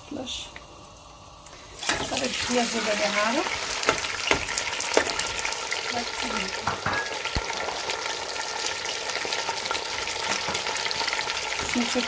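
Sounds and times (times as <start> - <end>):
chicken sizzling in hot oil: 0.1 - 12.0.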